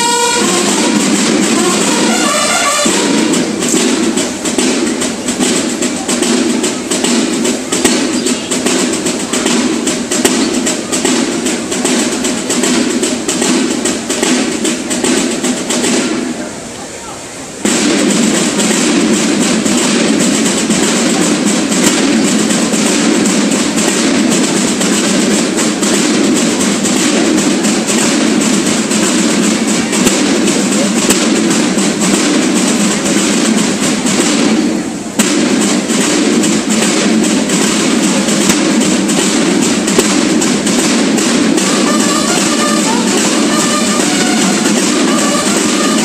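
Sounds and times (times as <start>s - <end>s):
drum and bugle corps playing: 0.0s - 16.8s, 17.4s - 46.0s.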